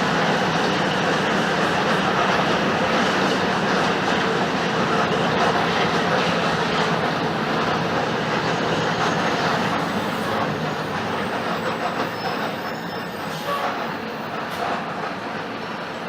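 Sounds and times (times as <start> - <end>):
bus diesel engine rumble: 0.0 - 16.0.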